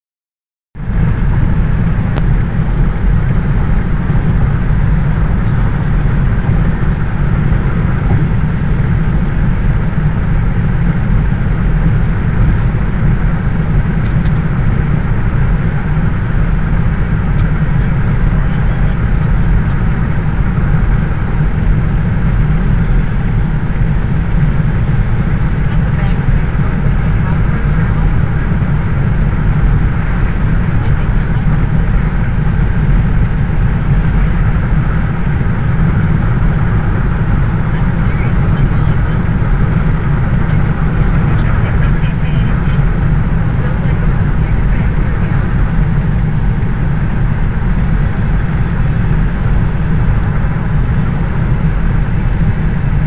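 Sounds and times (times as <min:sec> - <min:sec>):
car road noise at highway speed: 0:00.8 - 0:53.0.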